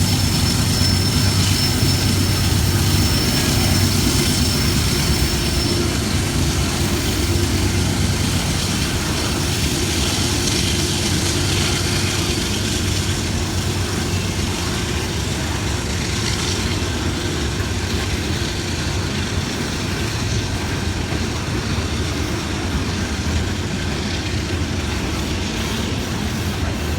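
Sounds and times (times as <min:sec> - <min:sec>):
freight train rumbling on rails: 0:00.0 - 0:26.9.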